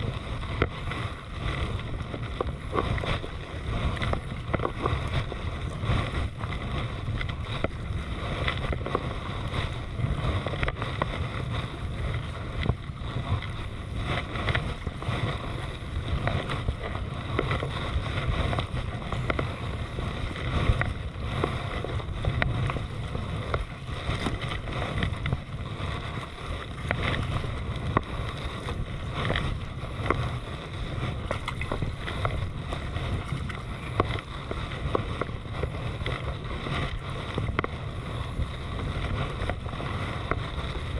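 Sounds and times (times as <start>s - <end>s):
paddle splashing water: 0.0s - 40.9s
wind rumble on microphone: 0.0s - 40.9s.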